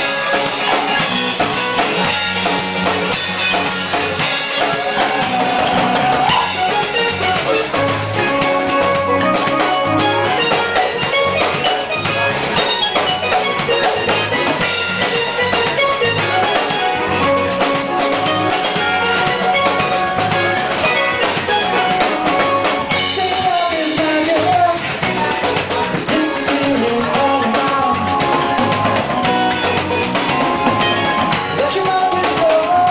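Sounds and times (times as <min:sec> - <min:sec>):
drum kit beat: 0:00.0 - 0:32.9
sliding guitar: 0:00.0 - 0:32.9.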